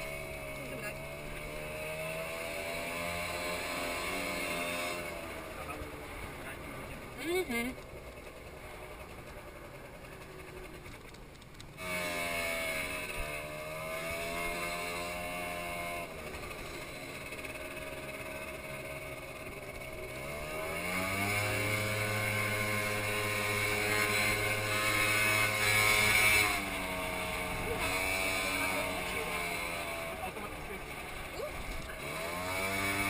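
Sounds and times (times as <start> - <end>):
motor scooter engine revving: 0.0 - 33.0.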